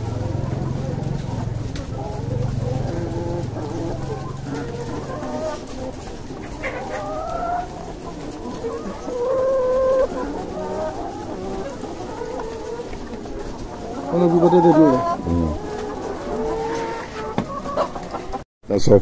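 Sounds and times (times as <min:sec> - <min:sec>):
hens clucking and calling: 0:00.0 - 0:18.4.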